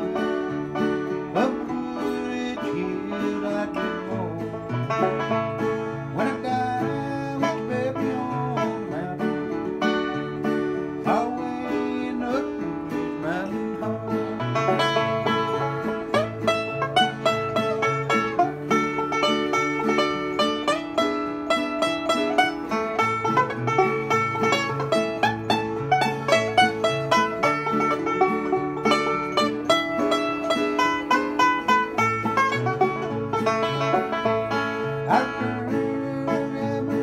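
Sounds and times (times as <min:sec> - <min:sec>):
fast banjo picking: 0:00.0 - 0:37.0.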